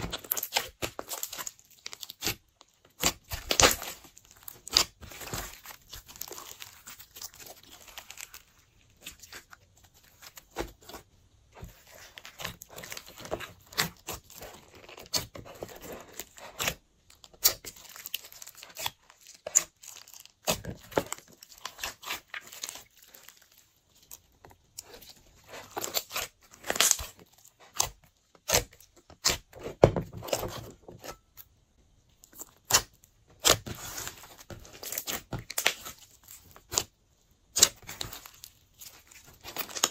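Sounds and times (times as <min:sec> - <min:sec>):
slime squishing with sticky pops: 0:00.0 - 0:31.4, 0:32.1 - 0:39.9.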